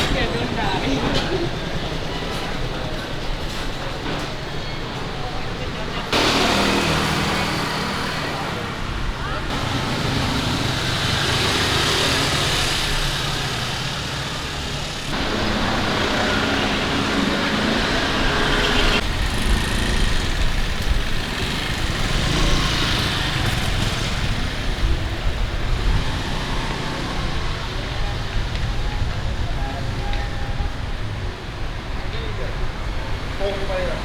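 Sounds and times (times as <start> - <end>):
traffic passing on road: 0.0 - 34.0.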